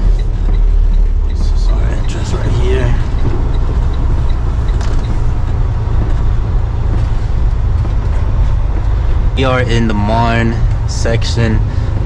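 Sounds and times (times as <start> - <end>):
diesel engine rumble: 0.0 - 12.0
faint regular ticking: 0.0 - 12.0
road noise: 0.0 - 12.0.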